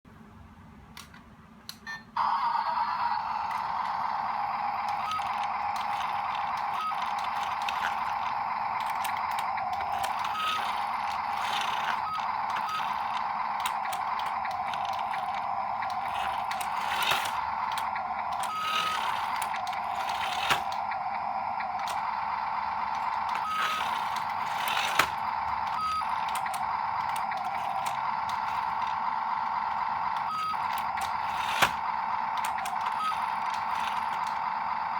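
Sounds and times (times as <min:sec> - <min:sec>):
small electric motors whining: 0:02.2 - 0:34.9.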